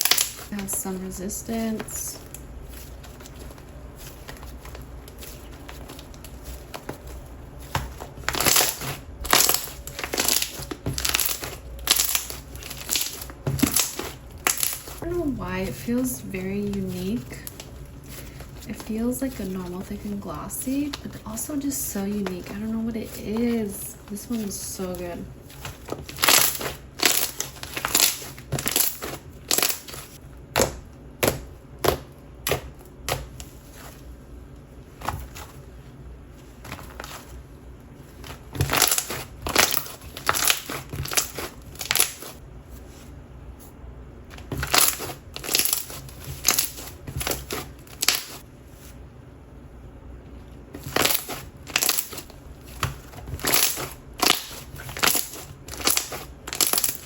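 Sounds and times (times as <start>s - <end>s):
slime squishing: 0.0s - 43.2s, 44.3s - 49.0s, 50.6s - 57.0s.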